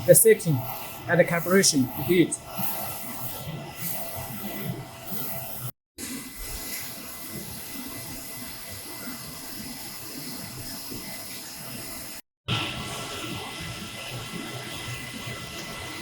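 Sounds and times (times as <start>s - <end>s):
printer fans and machinery hissing: 0.0s - 16.0s.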